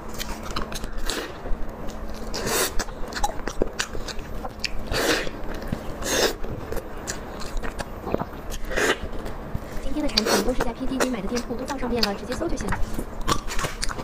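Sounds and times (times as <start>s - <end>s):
wet chewing: 0.1s - 14.0s.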